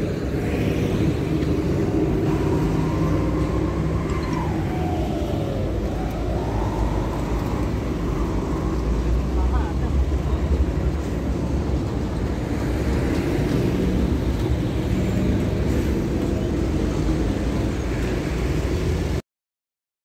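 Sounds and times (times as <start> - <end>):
road noise: 0.0 - 19.2.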